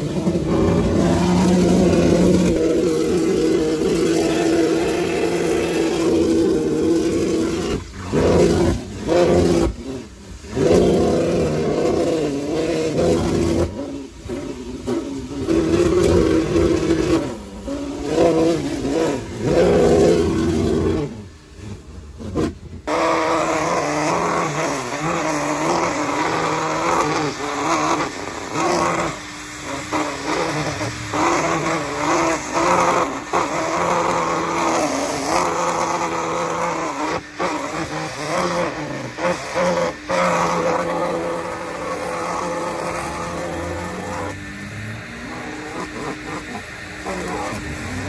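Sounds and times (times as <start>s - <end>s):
vacuum cleaner whining: 0.0s - 48.0s.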